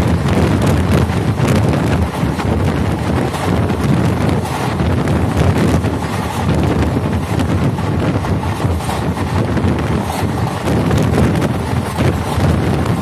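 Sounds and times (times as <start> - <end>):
train wheels rumbling on track: 0.0 - 13.0
wind buffeting microphone: 0.0 - 13.0.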